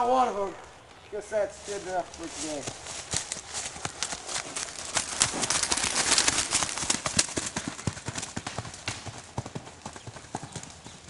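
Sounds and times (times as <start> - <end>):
horse hooves on leafy ground: 1.4 - 11.0.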